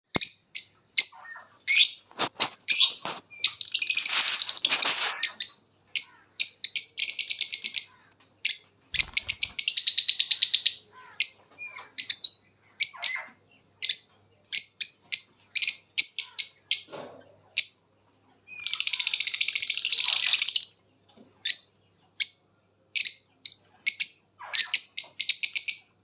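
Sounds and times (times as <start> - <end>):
lovebirds chirping and trilling: 0.1 - 26.0.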